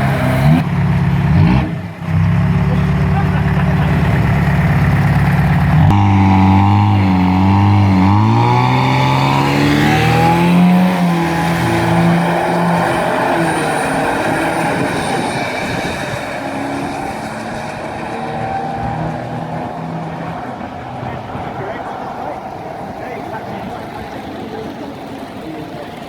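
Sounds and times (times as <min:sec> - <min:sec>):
diesel truck engine at full throttle: 0:00.0 - 0:26.0.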